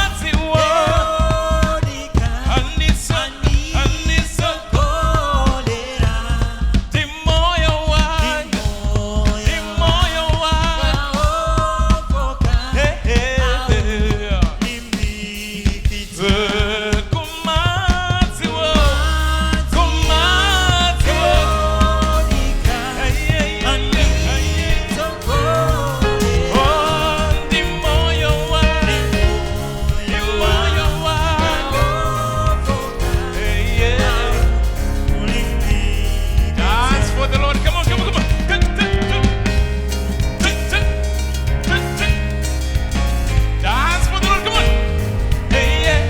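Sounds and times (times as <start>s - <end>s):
bass: 0.0s - 46.0s
drum kit: 0.0s - 46.0s
voices singing gospel melody: 0.0s - 46.0s.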